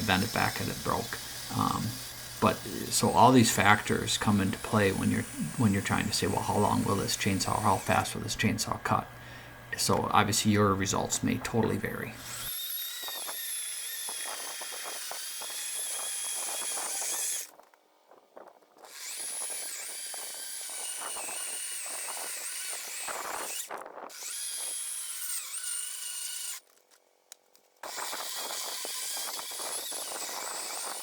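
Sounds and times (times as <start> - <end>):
electric chainsaw cutting wood: 0.0 - 9.1, 10.9 - 17.7, 18.4 - 26.8, 27.8 - 31.0.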